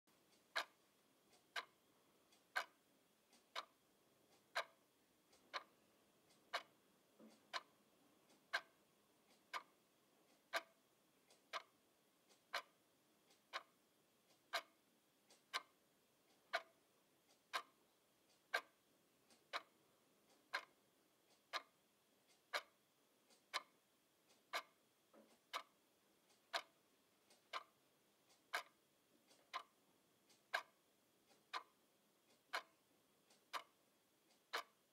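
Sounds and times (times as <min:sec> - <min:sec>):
alarm clock ticking: 0:00.2 - 0:34.9.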